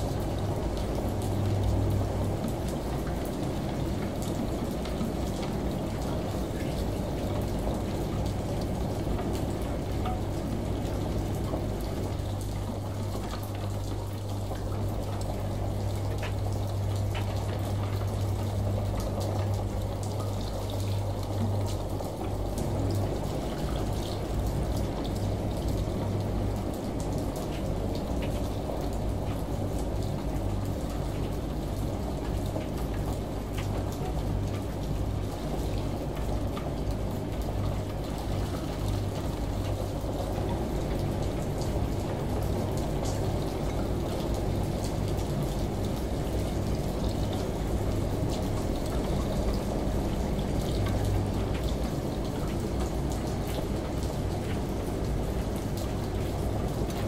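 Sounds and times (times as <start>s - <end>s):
rain: 0.0s - 57.0s
running water: 0.0s - 57.0s
washing machine running: 0.0s - 57.0s
water dripping: 0.0s - 57.0s.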